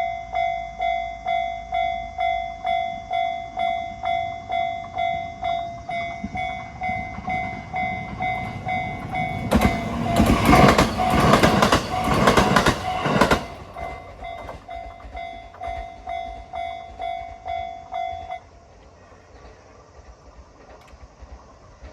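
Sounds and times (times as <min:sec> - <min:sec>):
level crossing alarm dinging: 0:00.0 - 0:18.4
train wheels clattering over rail joints: 0:04.1 - 0:21.9.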